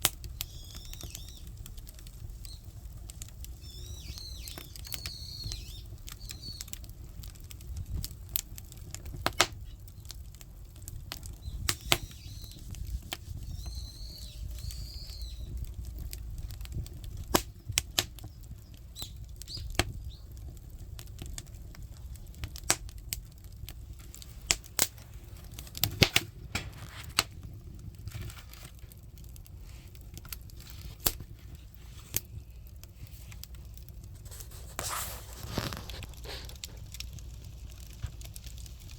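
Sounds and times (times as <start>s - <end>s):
firewood popping and crackling: 0.0s - 38.9s
low rumble of fire: 0.0s - 38.9s.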